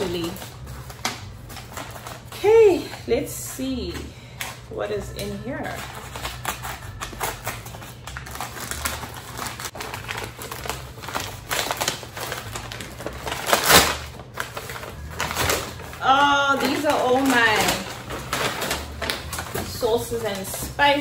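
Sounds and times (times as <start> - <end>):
paper and plastic packaging crinkling: 0.0 - 3.1, 3.8 - 21.0.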